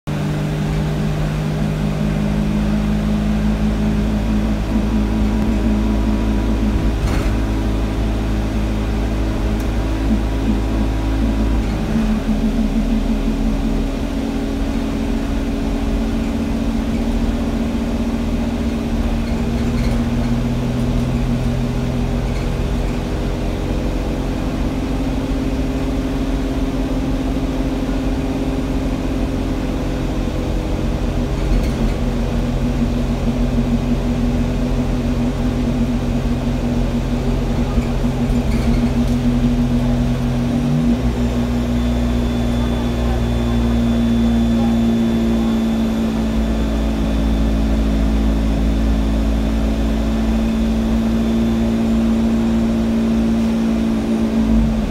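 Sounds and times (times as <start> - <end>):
bus diesel engine running: 0.1 - 54.9.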